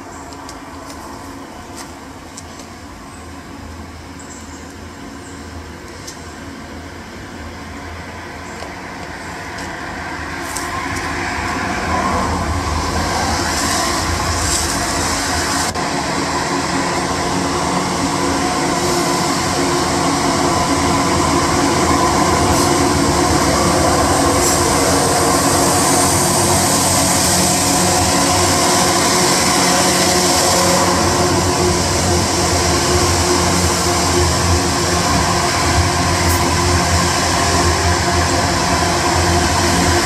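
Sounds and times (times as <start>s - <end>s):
diesel locomotive engines droning: 0.0s - 40.0s.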